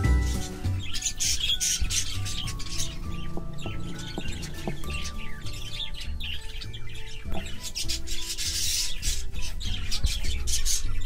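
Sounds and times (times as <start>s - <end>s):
background music: 0.0s - 11.0s
cockatiel calls: 0.1s - 11.0s.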